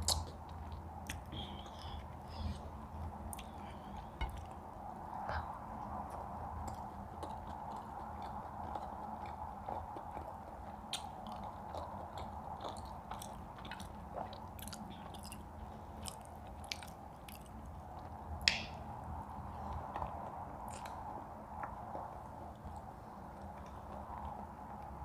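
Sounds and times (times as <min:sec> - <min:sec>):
chewing with mouth clicks: 0:00.0 - 0:25.0
low background hum: 0:00.0 - 0:25.0.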